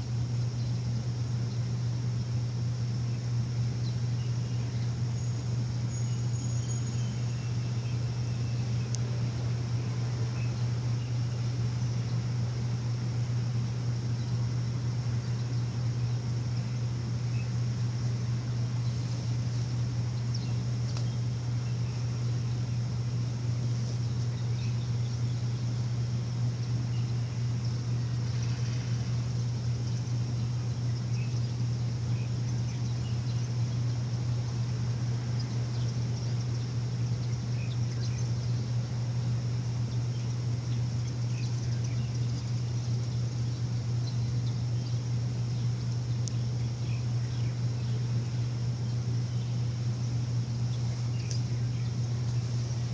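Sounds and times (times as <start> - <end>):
birds chirping faintly: 0.0 - 52.9
machine humming: 0.0 - 52.9.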